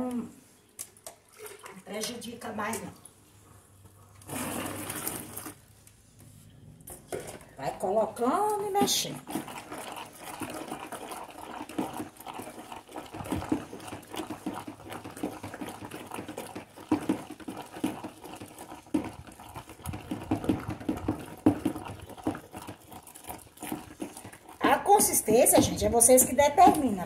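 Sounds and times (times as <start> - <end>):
thick liquid sloshing and squelching: 0.8 - 3.4, 4.1 - 5.6, 8.3 - 27.0.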